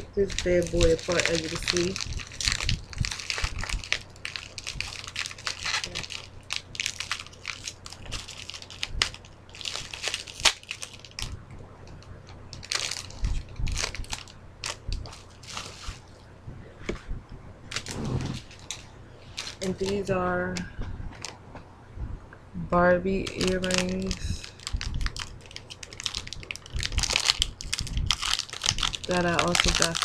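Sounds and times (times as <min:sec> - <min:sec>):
packaging crackling and snapping: 0:00.0 - 0:16.2, 0:17.7 - 0:20.1, 0:21.1 - 0:21.4, 0:23.2 - 0:30.0
low fan hum: 0:00.0 - 0:30.0.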